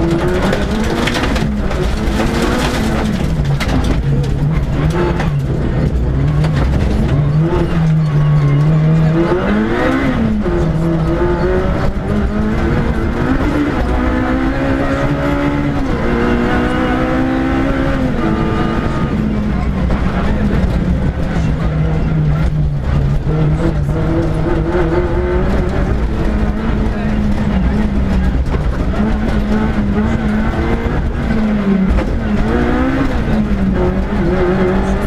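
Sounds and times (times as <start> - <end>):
rally car engine revving: 0.0 - 35.0
tyres roaring on gravel: 0.0 - 35.0.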